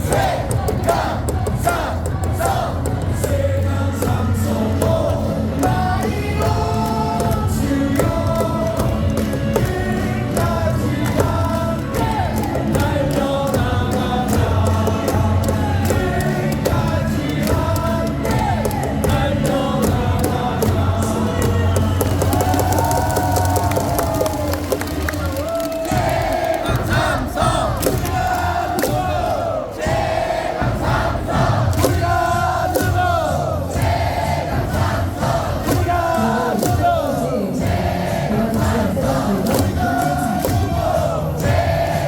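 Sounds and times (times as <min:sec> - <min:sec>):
amplified music: 0:00.0 - 0:42.0
crowd singing in unison: 0:00.0 - 0:42.0
rhythmic clapping: 0:00.0 - 0:42.0.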